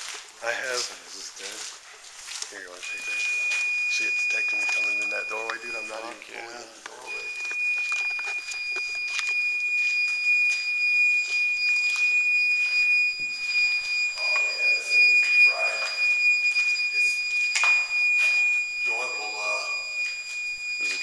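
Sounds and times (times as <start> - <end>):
high-pitched alarm tone: 2.6 - 21.0.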